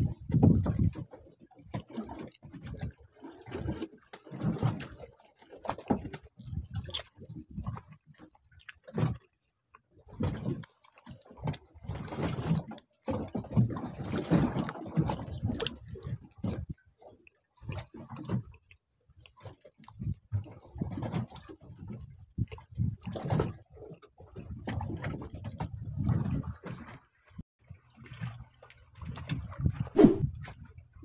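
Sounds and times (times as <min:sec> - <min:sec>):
water sloshing and splashing: 0:00.0 - 0:31.0.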